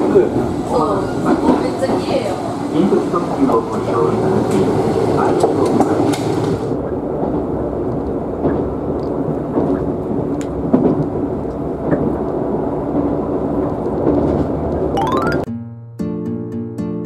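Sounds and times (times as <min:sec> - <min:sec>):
train wheels rumbling on rails: 0:00.0 - 0:14.9.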